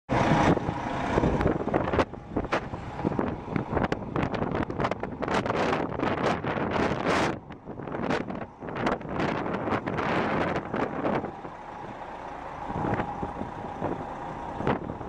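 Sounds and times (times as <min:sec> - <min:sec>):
gusty wind buffeting microphone: 0:00.1 - 0:15.0.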